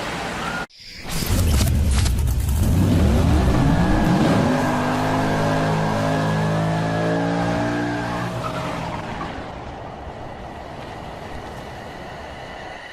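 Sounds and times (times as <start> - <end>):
car running: 1.3 - 11.8.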